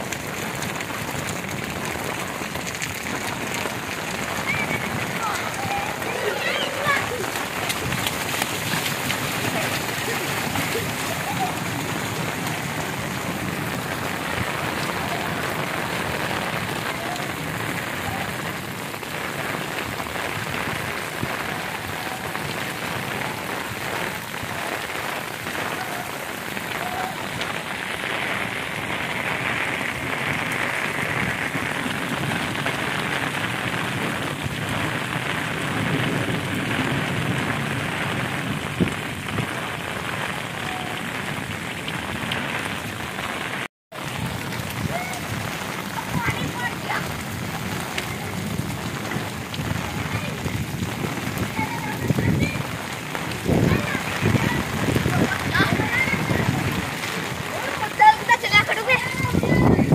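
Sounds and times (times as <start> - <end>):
heavy rain on water: 0.0 - 59.9.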